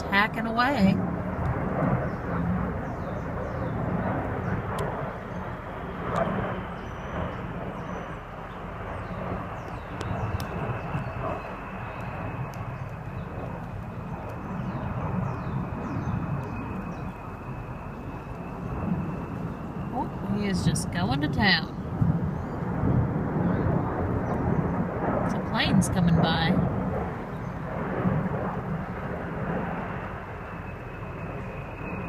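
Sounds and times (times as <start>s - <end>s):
aircraft engines passing overhead: 0.0s - 32.0s.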